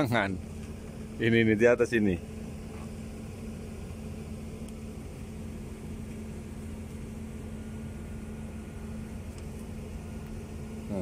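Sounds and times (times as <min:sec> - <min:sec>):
boat machinery humming: 0:00.0 - 0:11.0.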